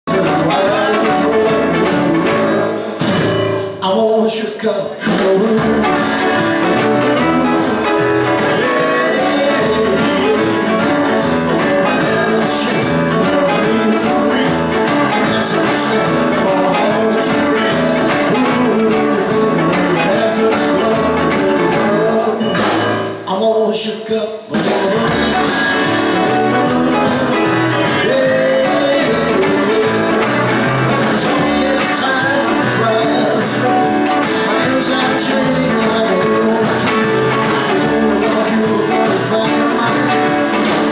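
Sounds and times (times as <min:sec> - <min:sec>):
man singing lead vocal: 0:00.0 - 0:40.9
rock and roll band playing: 0:00.0 - 0:40.9.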